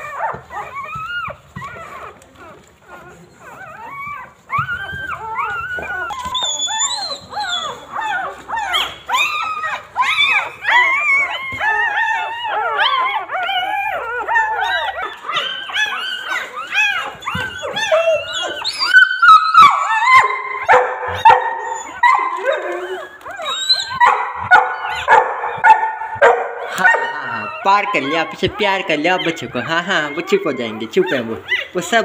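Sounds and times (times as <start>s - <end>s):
puppies squealing and whimpering: 0.0s - 32.0s.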